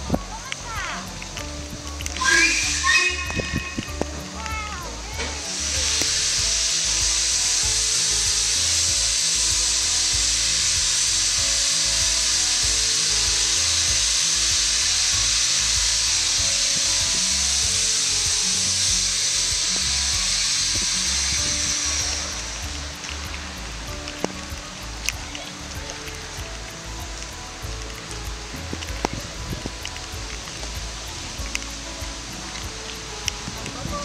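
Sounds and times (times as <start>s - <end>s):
background music: 0.0s - 34.0s
steam locomotive hissing: 0.0s - 34.0s.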